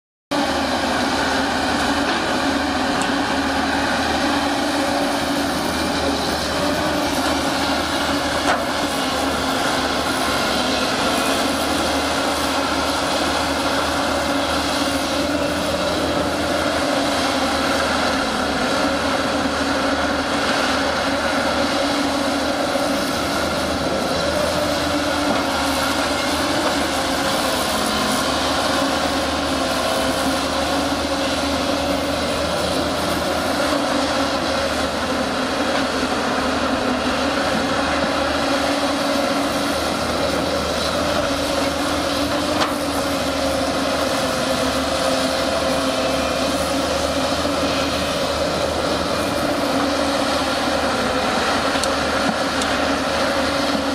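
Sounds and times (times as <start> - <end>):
excavator diesel engine running: 0.3 - 53.9.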